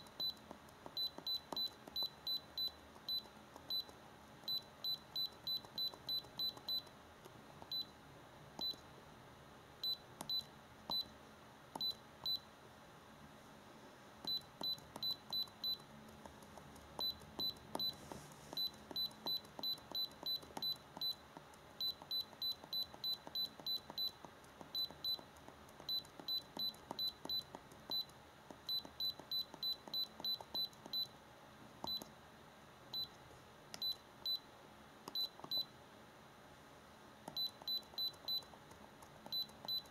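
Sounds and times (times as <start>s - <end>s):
scanner key press beeps: 0.0s - 7.0s, 7.6s - 8.0s, 8.6s - 8.9s, 9.8s - 12.5s, 14.2s - 31.2s, 31.8s - 32.1s, 32.9s - 35.7s, 37.2s - 39.9s.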